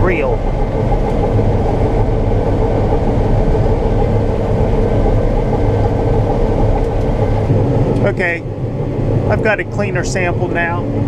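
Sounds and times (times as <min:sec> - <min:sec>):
combine harvester drone: 0:00.0 - 0:11.0.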